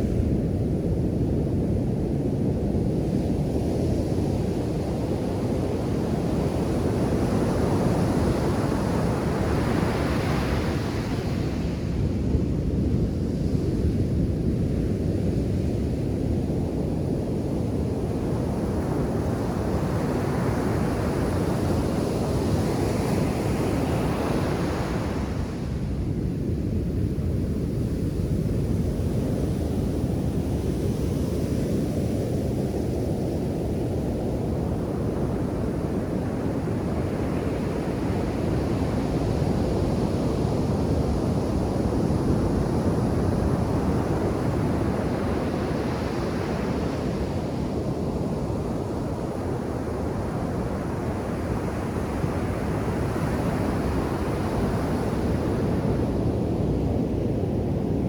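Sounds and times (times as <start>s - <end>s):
waves hissing up the shore: 3.2s - 12.6s, 15.4s - 58.0s.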